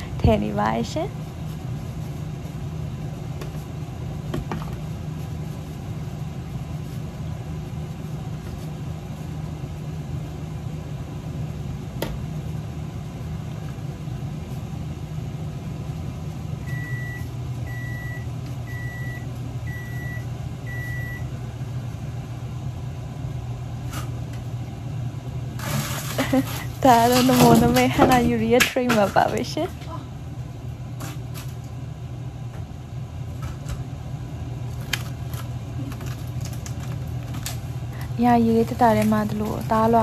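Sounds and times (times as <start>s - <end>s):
kitchen appliance hum: 0.0s - 40.0s.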